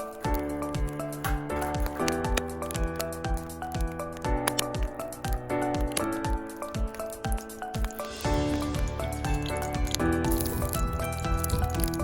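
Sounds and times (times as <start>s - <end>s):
crisp ticks: 0.0s - 12.0s
held chords: 0.0s - 12.0s
kick drum beat: 0.2s - 12.0s.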